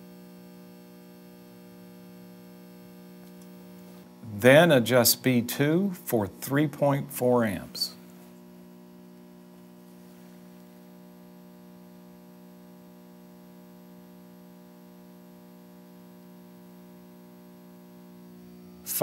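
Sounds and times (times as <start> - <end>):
buzzy electrical hum: 0.0 - 19.0.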